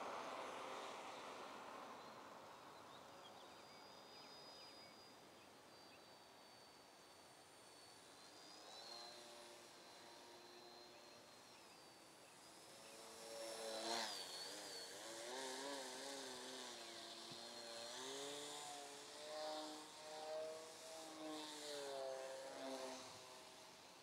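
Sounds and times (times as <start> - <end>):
model plane motor buzzing: 0.0 - 24.0.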